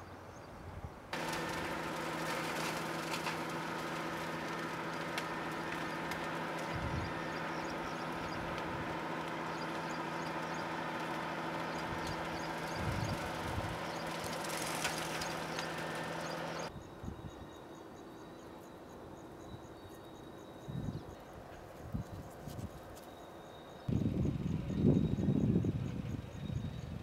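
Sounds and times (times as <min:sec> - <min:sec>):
steady motor hum: 0:01.1 - 0:22.7, 0:23.5 - 0:27.0.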